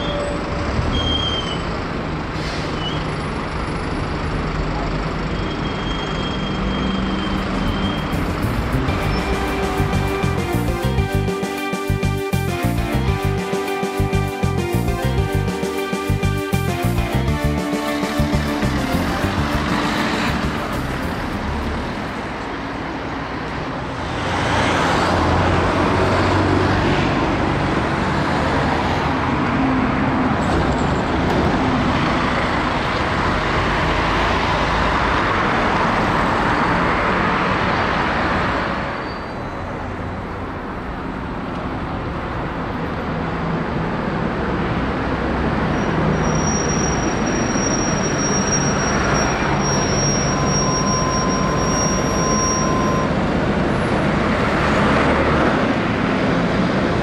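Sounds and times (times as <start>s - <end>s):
diesel buses running: 0.0s - 57.0s
road traffic: 0.0s - 57.0s.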